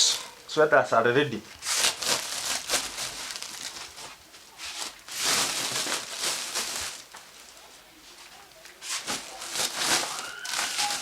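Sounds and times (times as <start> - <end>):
sweaters rustling: 1.4 - 11.0.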